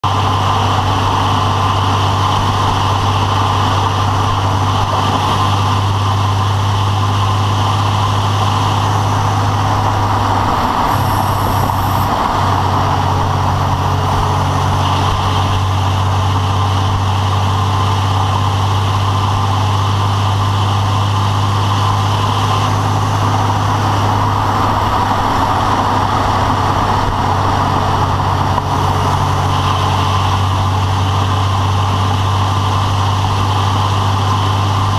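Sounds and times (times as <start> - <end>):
engine idling with rapid rattle: 0.0 - 34.9.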